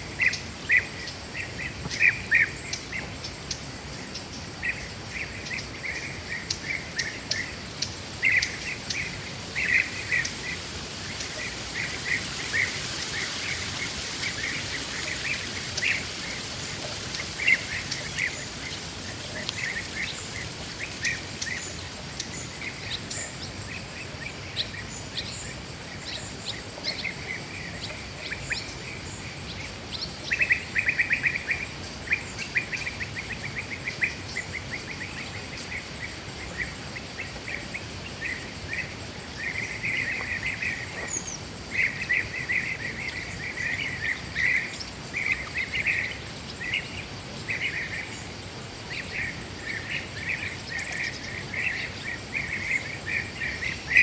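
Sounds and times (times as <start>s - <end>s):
steady background hiss: 0.0s - 54.0s
birds chirping: 0.1s - 54.0s.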